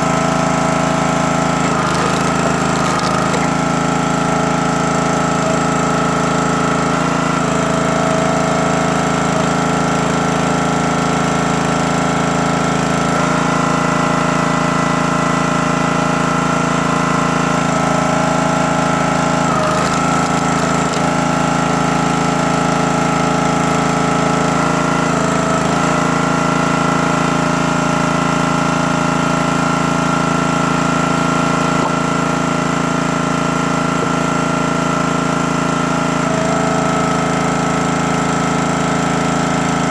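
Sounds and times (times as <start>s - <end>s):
small gas engine running: 0.0s - 12.1s, 15.6s - 39.9s.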